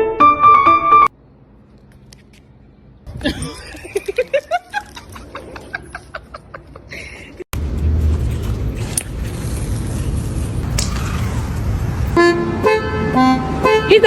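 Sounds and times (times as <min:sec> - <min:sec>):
road vehicles rumbling: 0:01.1 - 0:14.0.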